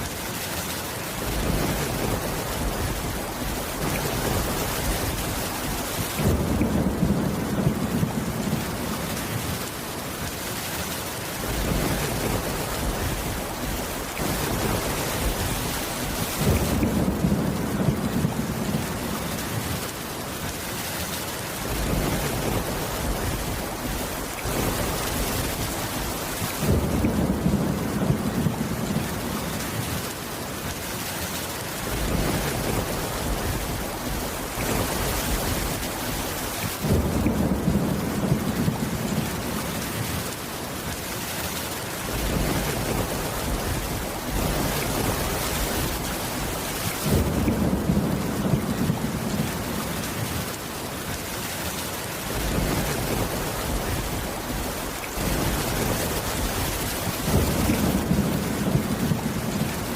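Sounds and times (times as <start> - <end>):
steady rain: 0.0 - 59.9
low thunder rumbles: 1.2 - 9.7, 11.4 - 19.9, 21.6 - 30.1, 31.8 - 40.3, 42.1 - 50.6, 52.3 - 59.9.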